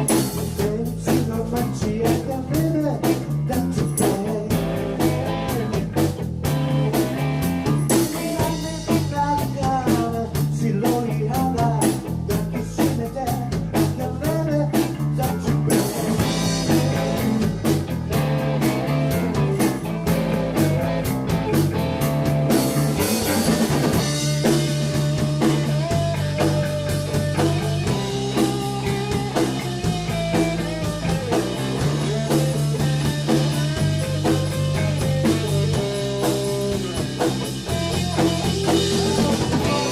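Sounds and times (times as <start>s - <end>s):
rock band playing blues: 0.0s - 39.9s.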